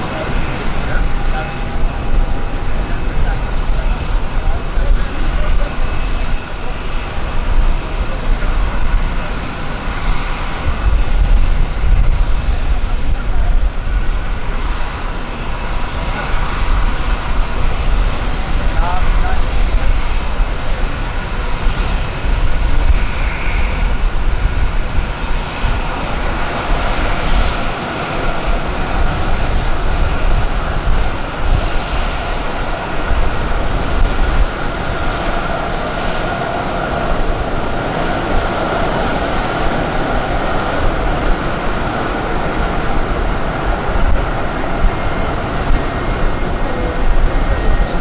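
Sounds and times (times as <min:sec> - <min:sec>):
airliner engines running: 0:00.0 - 0:48.0.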